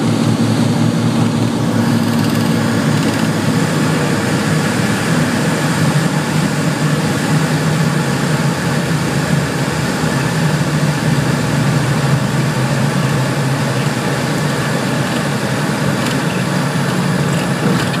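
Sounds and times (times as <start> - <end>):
airliner engine and rushing air: 0.0 - 18.0
constant low hum: 0.0 - 18.0.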